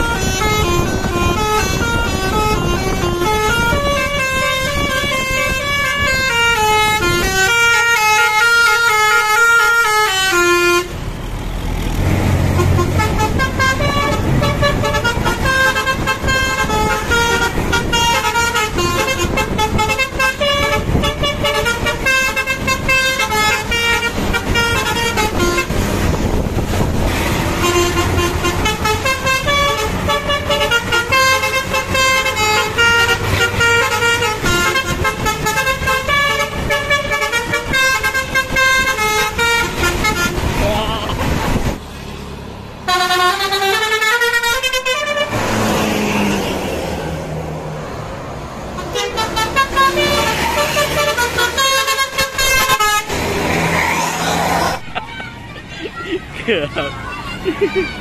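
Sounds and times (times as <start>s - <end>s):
bus multi-tone horn melody: 0.0s - 41.8s, 42.8s - 47.2s, 48.6s - 55.0s
bus engine running: 0.0s - 58.0s.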